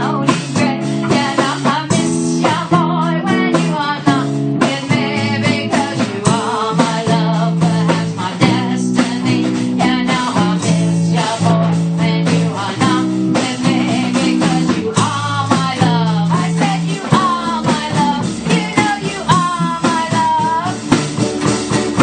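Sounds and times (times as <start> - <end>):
bass notes: 0.0 - 22.0
drum beat: 0.0 - 22.0
guitars: 0.0 - 22.0.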